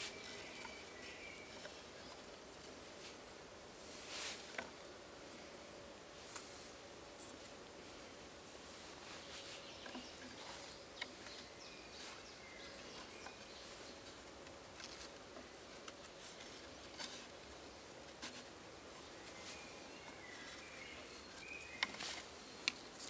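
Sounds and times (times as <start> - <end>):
twigs rustling: 0.0 - 4.9, 6.2 - 23.0
birds chirping: 0.0 - 6.5, 8.6 - 18.1, 18.8 - 23.0.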